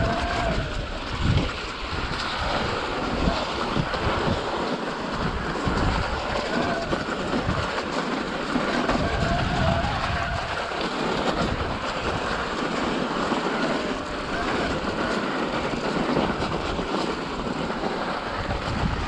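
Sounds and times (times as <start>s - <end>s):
bicycle rattling over rough trail: 0.0s - 19.0s
wind buffeting microphone: 0.0s - 19.0s.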